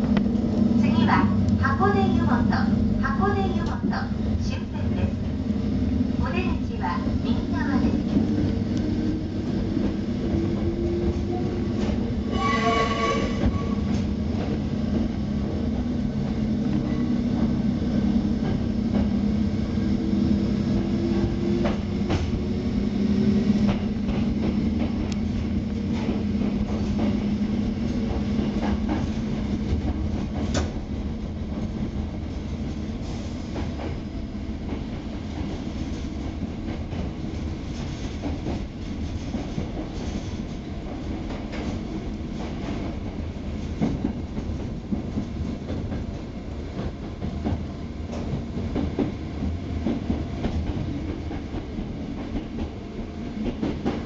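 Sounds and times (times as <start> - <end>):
train rumbling in a tunnel: 0.0 - 54.0.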